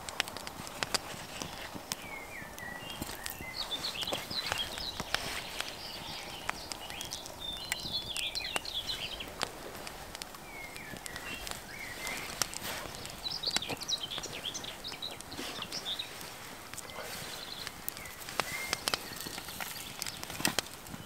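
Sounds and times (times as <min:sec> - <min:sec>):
sharp clicks and crackles: 0:00.0 - 0:21.0
songbirds chirping: 0:00.0 - 0:21.0.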